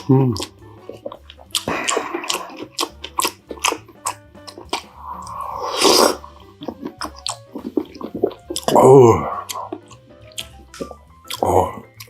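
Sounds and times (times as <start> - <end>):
crunchy chewing: 0.0 - 12.0
wet mouth clicks: 0.0 - 12.0.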